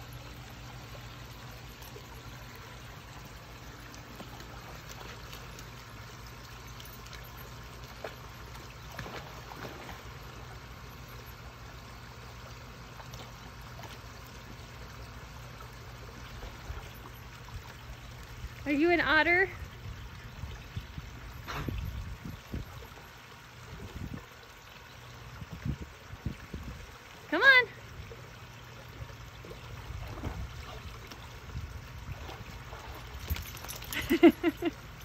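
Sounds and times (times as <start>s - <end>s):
water trickling in a stream: 0.0s - 35.0s.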